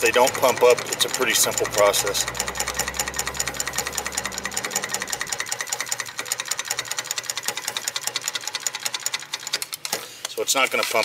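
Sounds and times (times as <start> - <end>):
machine clattering: 0.0 - 11.0.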